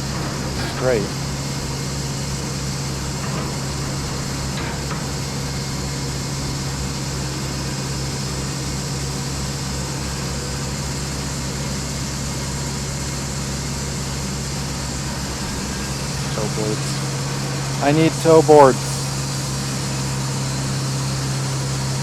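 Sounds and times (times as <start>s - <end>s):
band sawmill machinery droning: 0.0s - 22.0s.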